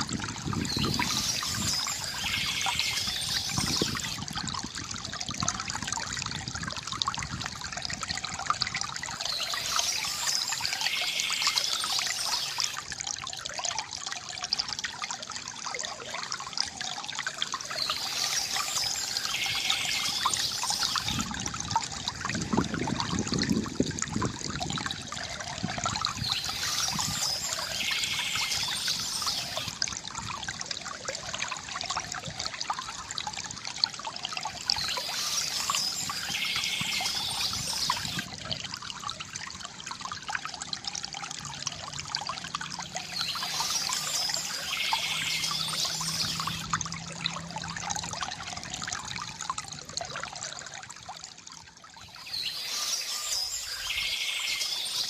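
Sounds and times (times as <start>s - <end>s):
river water gurgling: 0.0s - 55.0s
water rush: 0.0s - 55.0s.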